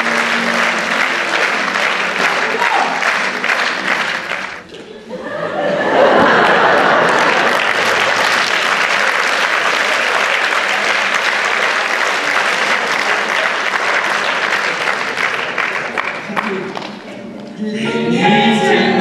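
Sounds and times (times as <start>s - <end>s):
audience applauding: 0.0s - 4.7s, 5.9s - 17.2s.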